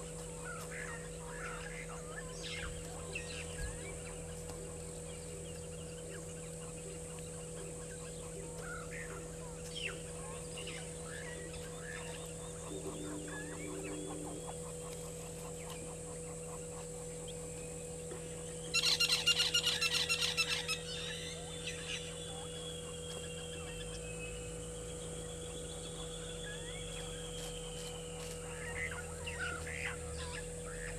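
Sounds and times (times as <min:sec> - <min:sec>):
faint birdsong: 0:00.0 - 0:30.9.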